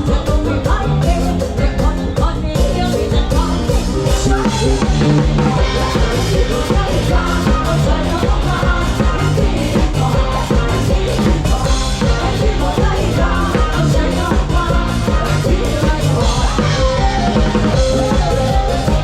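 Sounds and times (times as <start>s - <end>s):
drum kit: 0.0s - 19.0s
live rock band playing: 0.0s - 19.0s.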